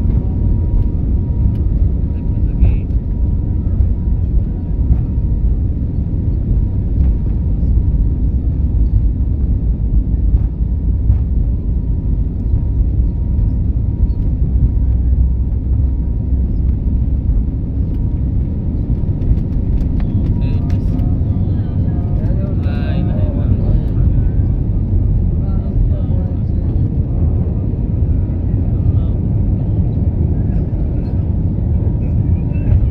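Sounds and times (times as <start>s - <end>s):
airliner cabin noise: 0.0s - 32.9s.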